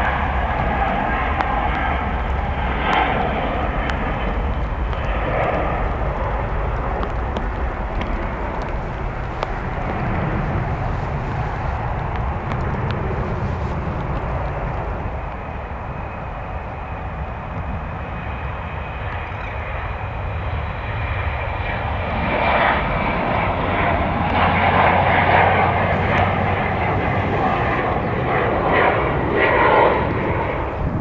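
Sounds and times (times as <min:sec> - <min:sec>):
jet engines at takeoff power: 0:00.0 - 0:31.0.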